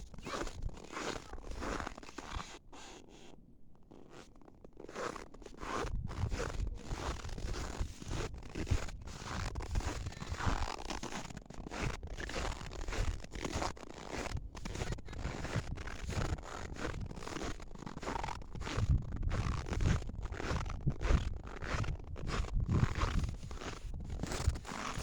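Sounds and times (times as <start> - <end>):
footsteps creaking in frosty snow: 0.0 - 25.0.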